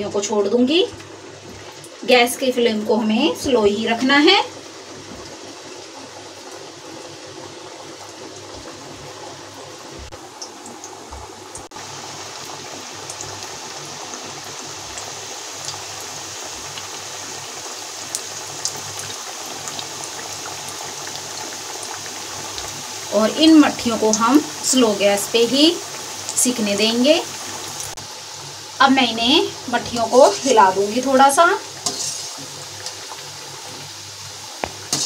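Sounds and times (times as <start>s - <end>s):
dough sizzling in hot oil: 0.0s - 35.0s.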